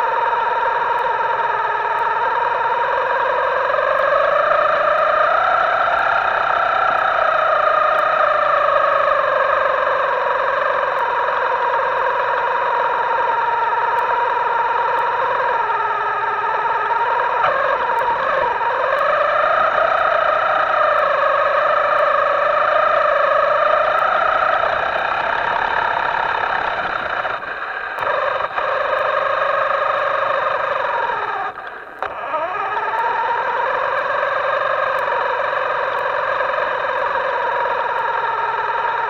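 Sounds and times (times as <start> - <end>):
electric motor whining: 0.0 - 39.0.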